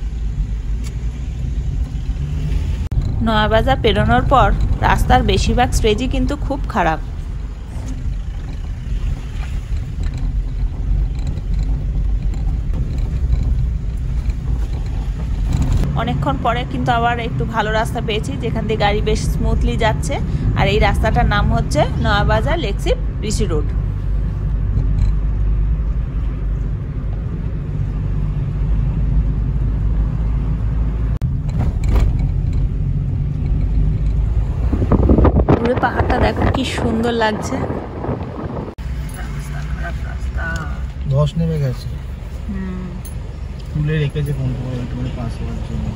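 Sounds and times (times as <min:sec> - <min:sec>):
car engine and tyres rumbling: 0:00.0 - 0:45.9.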